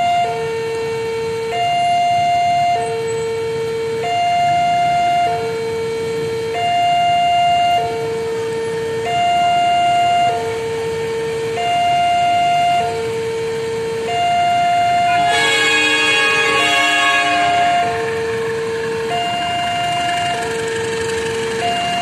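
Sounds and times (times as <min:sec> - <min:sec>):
two-tone warning siren: 0:00.0 - 0:22.0.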